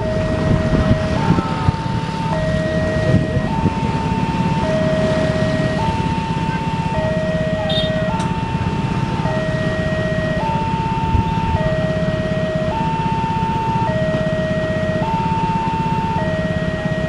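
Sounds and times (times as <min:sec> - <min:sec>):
level crossing two-tone alarm: 0:00.0 - 0:17.0
motorcycles and cars idling: 0:00.0 - 0:17.0.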